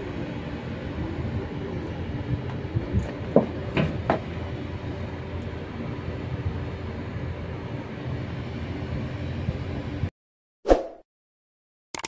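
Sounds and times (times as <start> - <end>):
air conditioner mechanical hum: 0.0 - 10.1.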